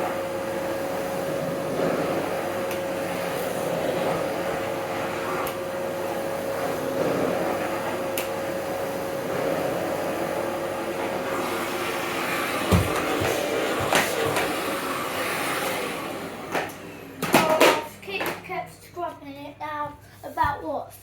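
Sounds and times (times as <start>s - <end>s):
vacuum cleaner running: 0.0s - 20.3s.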